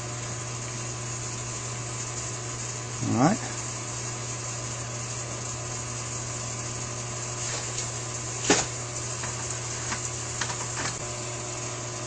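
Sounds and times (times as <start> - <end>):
steady low background hum: 0.0 - 12.0.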